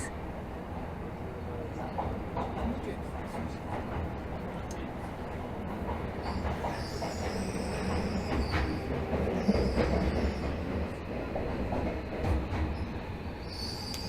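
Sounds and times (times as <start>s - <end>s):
subway train running rumble: 0.0s - 14.0s.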